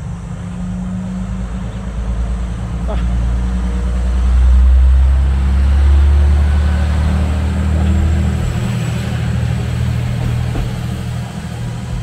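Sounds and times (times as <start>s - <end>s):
train engine deep hum: 0.0s - 12.0s.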